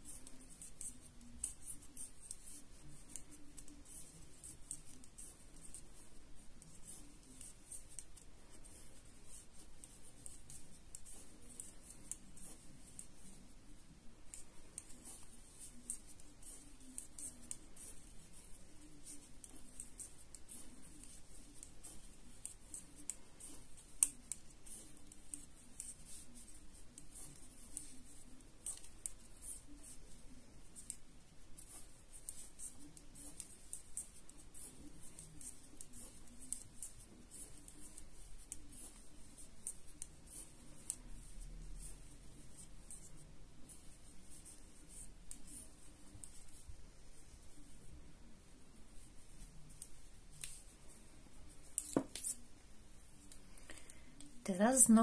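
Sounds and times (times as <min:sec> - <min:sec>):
knitting needles clicking: 0:00.0 - 0:13.5, 0:14.2 - 0:46.7, 0:49.4 - 0:52.6.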